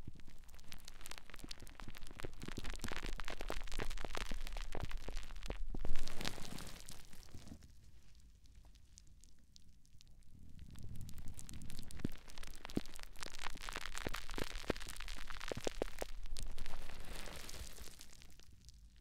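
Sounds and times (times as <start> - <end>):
sponge crackling and squishing: 0.0 - 9.3, 10.7 - 18.8.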